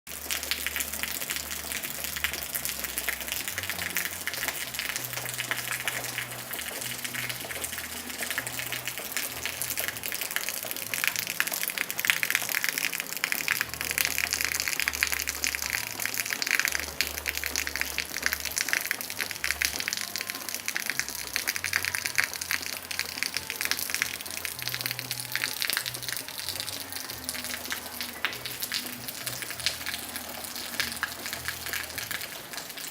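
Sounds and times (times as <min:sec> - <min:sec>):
water rushing and splashing: 0:00.1 - 0:32.9.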